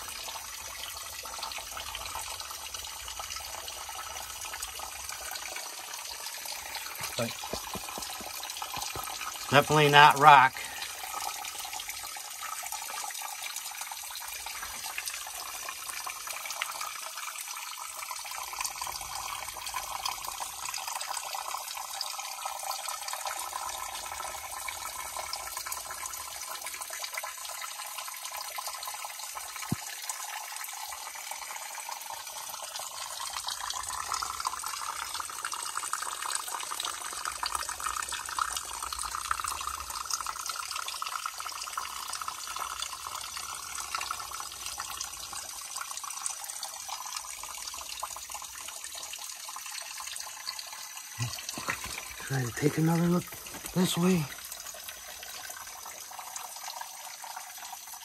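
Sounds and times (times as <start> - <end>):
creek water trickling over rocks: 0.0 - 58.0.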